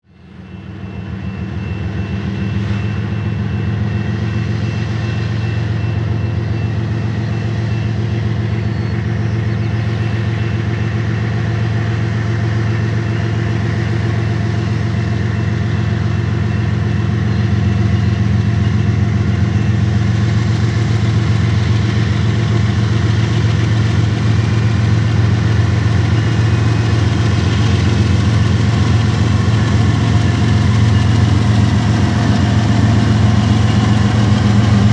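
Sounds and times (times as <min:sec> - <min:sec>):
diesel locomotive engines droning: 0:00.0 - 0:34.9.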